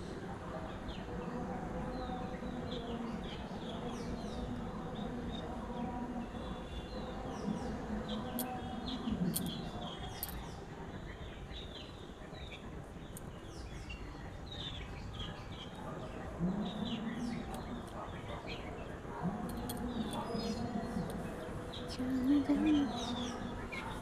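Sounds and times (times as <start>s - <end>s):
small birds chirping: 2.0s - 24.0s.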